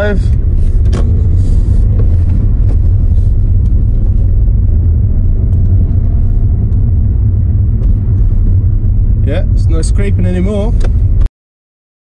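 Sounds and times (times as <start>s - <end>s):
car engine and road rumble: 0.0s - 11.3s.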